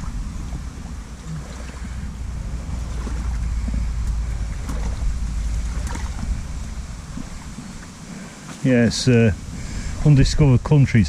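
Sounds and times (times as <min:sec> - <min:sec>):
water sloshing around legs: 0:00.0 - 0:10.2
wind rumble on microphone: 0:00.0 - 0:11.0.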